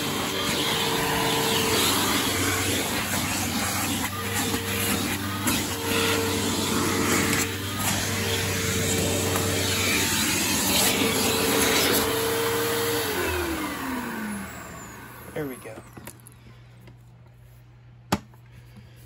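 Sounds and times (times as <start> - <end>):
motor winding down whine: 0.0 - 16.1
vacuum cleaner humming: 0.0 - 16.4.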